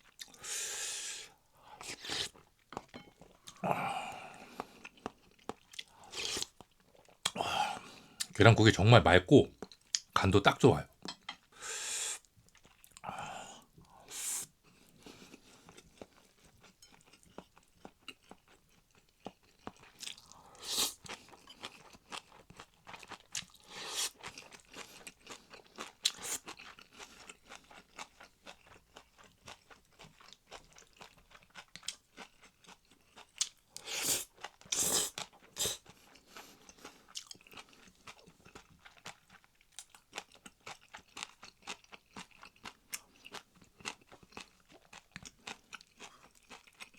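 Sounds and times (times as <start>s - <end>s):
person chewing crunchy food: 0.0s - 8.4s, 9.6s - 10.1s, 12.2s - 13.7s, 14.4s - 46.9s.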